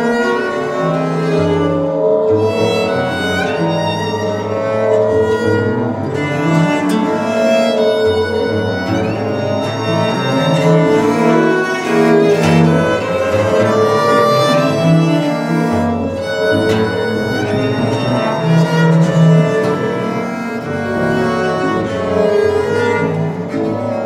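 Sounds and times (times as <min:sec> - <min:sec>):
viols playing slow bowed music: 0:00.0 - 0:24.0.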